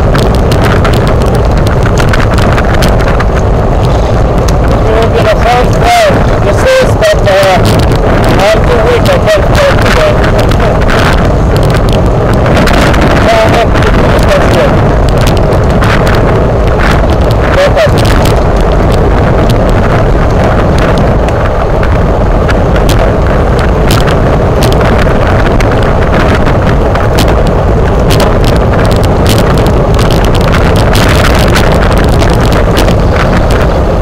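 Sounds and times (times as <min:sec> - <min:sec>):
bicycle clicks and rattles: 0:00.0 - 0:06.3, 0:07.2 - 0:33.9
wind buffeting microphone: 0:00.0 - 0:34.0.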